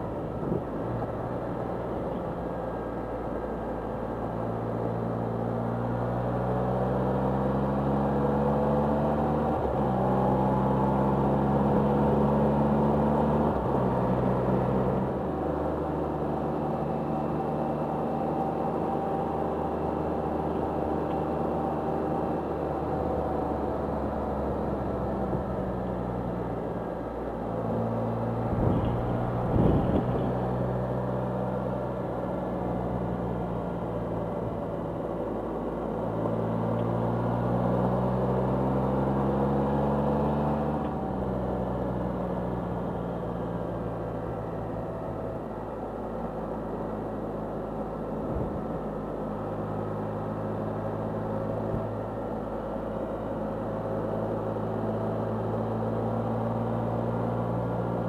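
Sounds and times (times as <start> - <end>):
three-cylinder engine running: 0.0 - 58.0.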